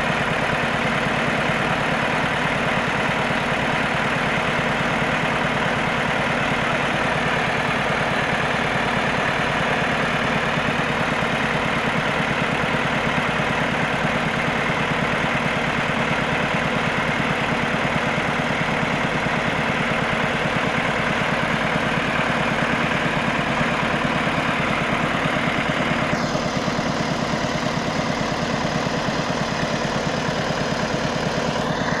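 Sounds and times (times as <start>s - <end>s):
diesel truck engine running: 0.0s - 32.0s.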